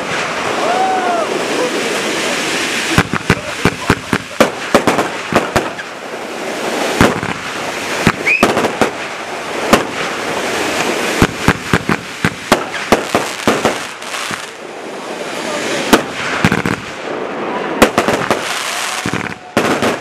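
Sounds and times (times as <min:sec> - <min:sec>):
fireworks bursting with sharp bangs: 0:00.0 - 0:20.0.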